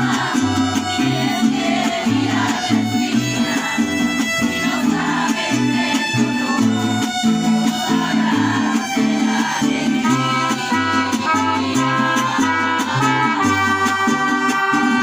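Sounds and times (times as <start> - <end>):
strummed rhythm guitars: 0.0 - 15.0
violins playing melody: 0.0 - 15.0.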